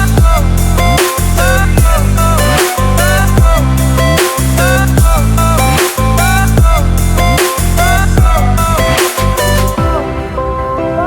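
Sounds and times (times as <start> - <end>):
repeating synth pattern: 0.0 - 10.1
electronic dance music: 0.0 - 11.0
sliding bass notes: 0.0 - 11.0.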